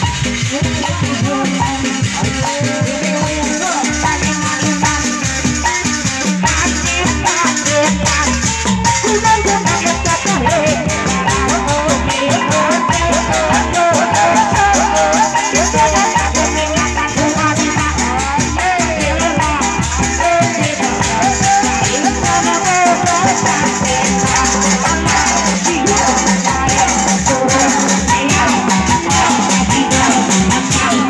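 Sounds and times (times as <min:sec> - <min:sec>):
dense percussion fast beat: 0:00.0 - 0:31.0
ornamented melody line: 0:00.0 - 0:31.0.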